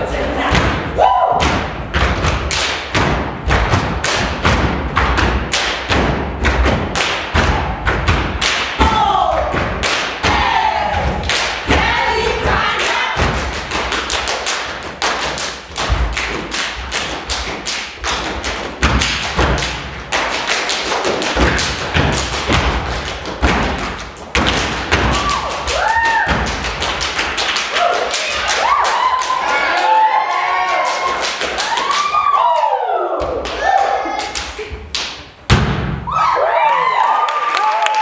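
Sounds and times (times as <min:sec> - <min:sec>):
rhythmic foot stomps: 0:00.5 - 0:29.7, 0:34.6 - 0:36.1
rhythmic hand claps: 0:01.4 - 0:32.7, 0:33.3 - 0:35.4.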